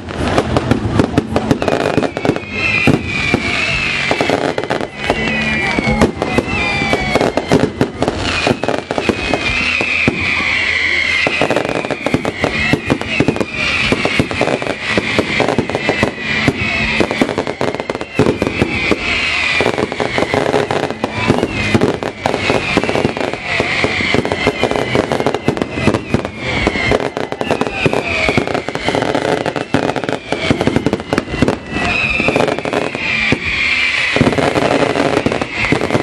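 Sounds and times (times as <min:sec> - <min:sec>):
fireworks crackling bangs: 0:00.0 - 0:36.0
high-pitched whistling tones: 0:00.0 - 0:36.0.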